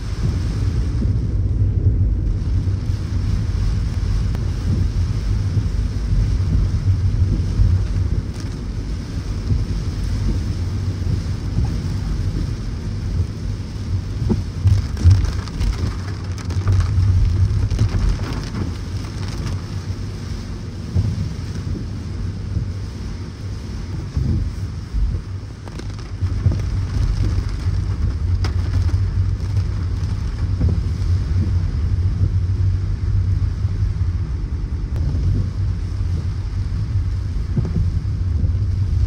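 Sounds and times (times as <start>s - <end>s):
car driving rumble: 0.0s - 39.0s
hiss of rain on wet road: 0.0s - 39.0s.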